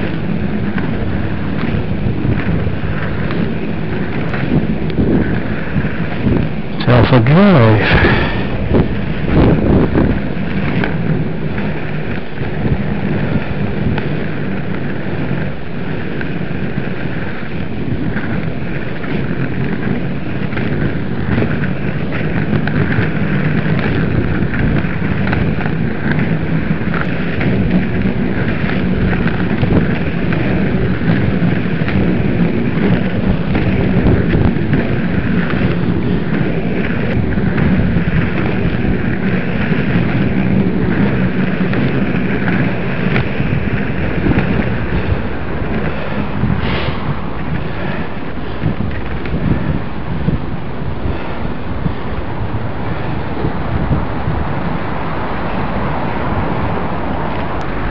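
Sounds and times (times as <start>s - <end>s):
skate wheels rolling on tarmac: 0.0s - 57.9s.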